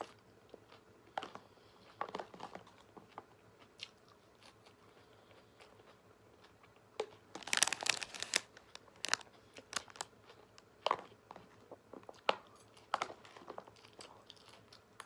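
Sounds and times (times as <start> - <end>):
crunching while eating: 0.0 - 15.0.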